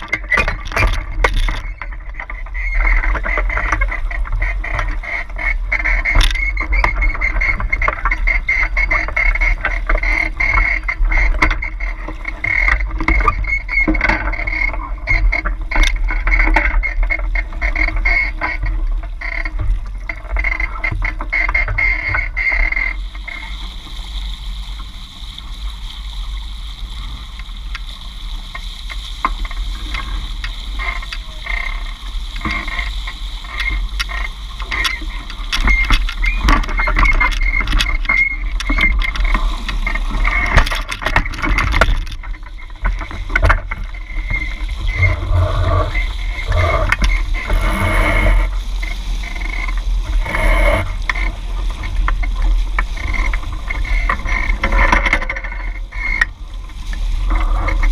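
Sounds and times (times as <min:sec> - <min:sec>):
boat rigging knocks and clicks: 0:00.0 - 0:23.4, 0:27.7 - 0:48.2, 0:48.8 - 0:57.9
water rushing along hulls: 0:00.0 - 0:57.9
wind rumble on microphone: 0:00.0 - 0:57.9.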